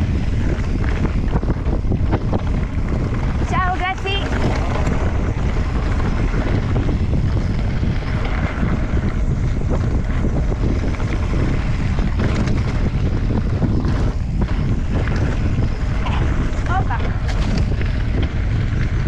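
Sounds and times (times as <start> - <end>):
bike tyres crunching on gravel: 0.0 - 19.0
wind buffeting microphone: 0.0 - 19.0.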